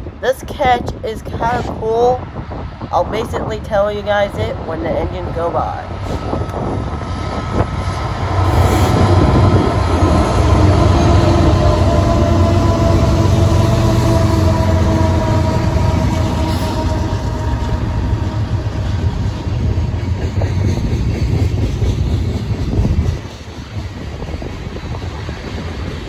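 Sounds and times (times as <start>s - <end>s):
diesel locomotive engine drone: 0.0s - 26.0s
locomotive whining tones: 0.2s - 26.0s.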